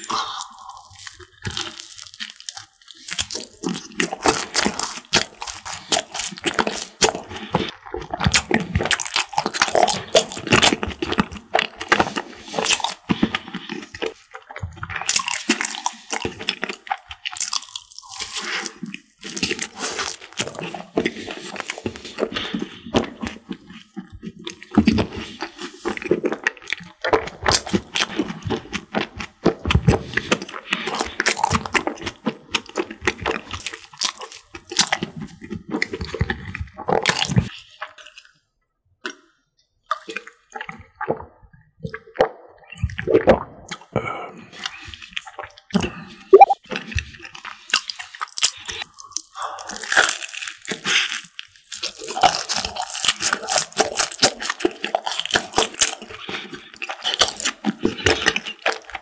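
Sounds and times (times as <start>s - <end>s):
crunching food: 0.0s - 38.4s, 39.0s - 59.0s
gulping milk: 0.0s - 38.4s, 39.9s - 59.0s
wet chewing: 0.0s - 38.4s, 39.9s - 59.0s.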